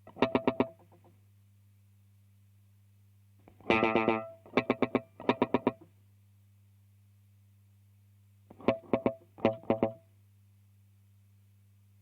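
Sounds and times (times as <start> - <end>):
faint amplifier hum: 0.0 - 12.0.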